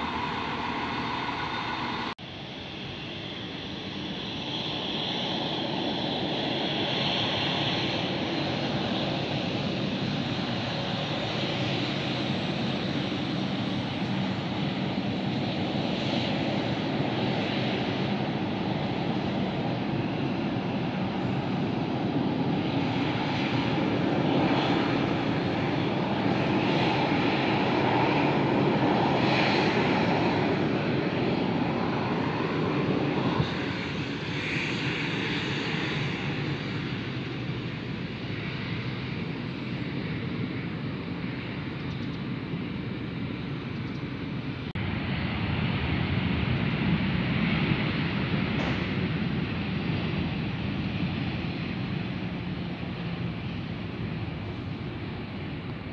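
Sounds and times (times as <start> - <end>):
jet engines rushing: 0.0 - 55.9.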